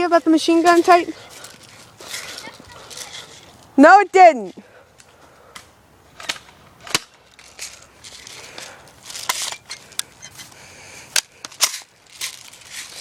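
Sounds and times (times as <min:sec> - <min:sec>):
rustling: 0:00.0 - 0:03.8, 0:04.5 - 0:13.0.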